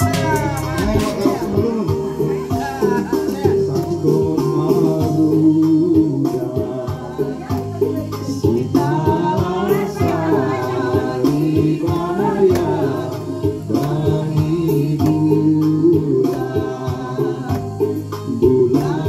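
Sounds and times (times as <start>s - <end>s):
backing music: 0.0s - 19.0s
people singing into microphones: 0.0s - 19.0s.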